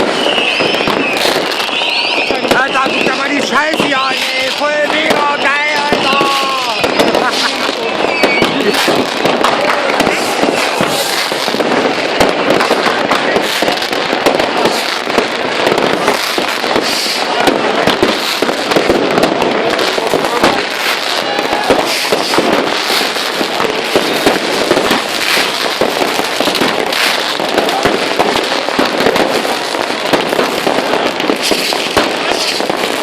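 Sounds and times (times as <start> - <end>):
fireworks and firecrackers banging: 0.0 - 33.0
people's voices: 0.0 - 33.0.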